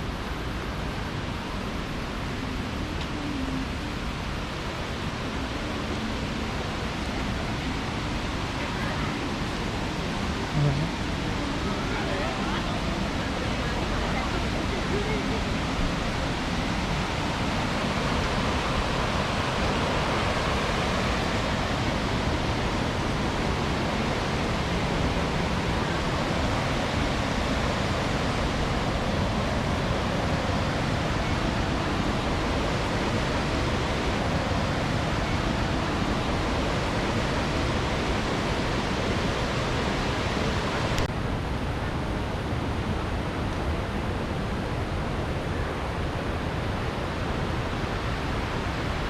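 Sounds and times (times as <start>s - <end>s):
waterfall roaring: 0.0s - 49.0s.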